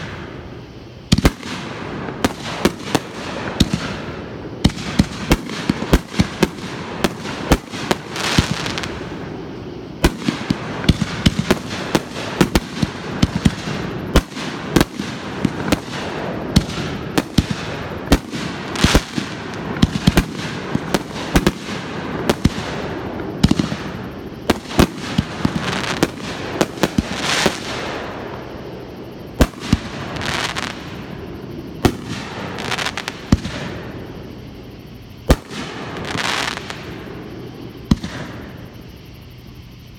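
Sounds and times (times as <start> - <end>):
fireworks hissing: 0.0 - 39.9.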